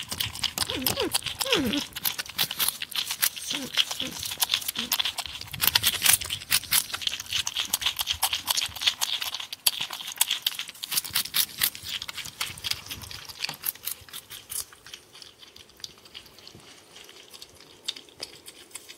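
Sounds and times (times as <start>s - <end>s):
porcupine chewing and crunching: 0.0s - 18.9s.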